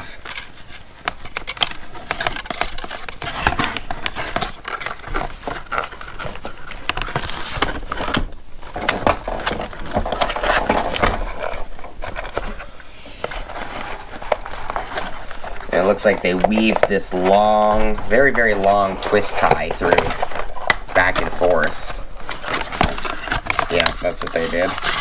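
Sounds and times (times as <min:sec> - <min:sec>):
cardboard and packaging rustling: 0:00.0 - 0:25.0.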